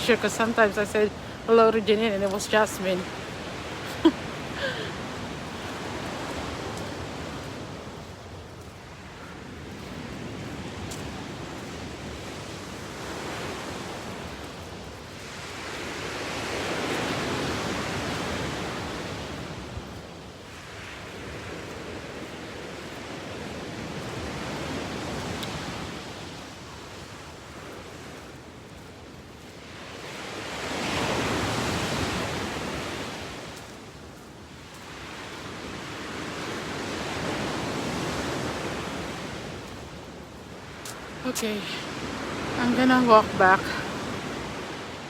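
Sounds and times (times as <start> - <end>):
waves breaking: 0.0 - 45.0.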